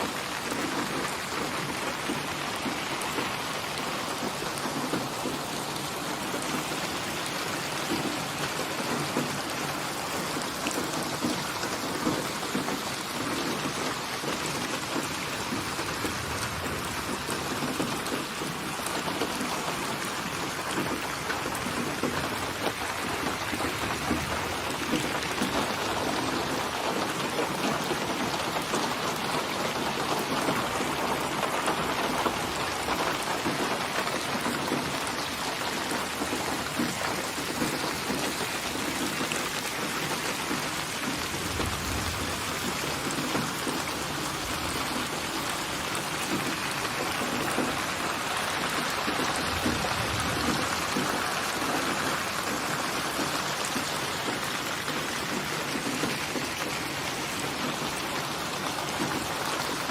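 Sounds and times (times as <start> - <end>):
rain pattering on surfaces: 0.0 - 59.9.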